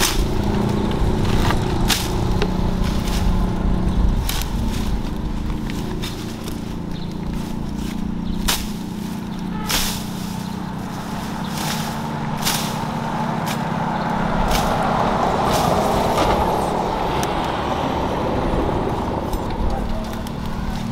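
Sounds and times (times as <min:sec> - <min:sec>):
blade swishing through vines: 0:00.0 - 0:16.8
vehicle engine drone: 0:00.0 - 0:20.9.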